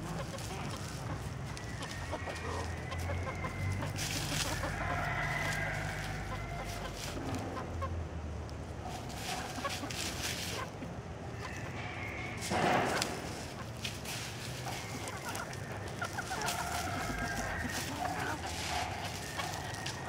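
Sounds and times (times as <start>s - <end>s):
chicken drawn-out call: 0.0s - 8.0s, 8.8s - 20.0s
chickens clucking: 0.0s - 20.0s
dry leaves rustling: 0.0s - 20.0s.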